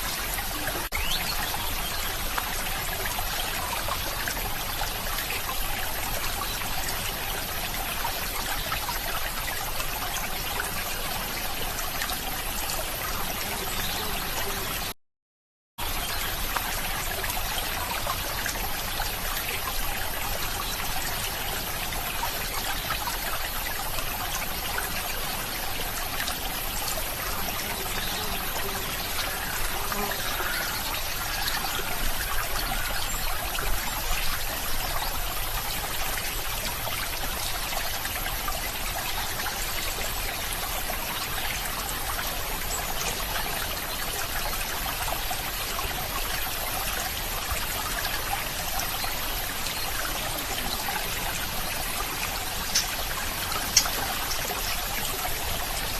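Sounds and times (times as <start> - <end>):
stream water trickling: 0.0 - 15.0, 15.8 - 55.9.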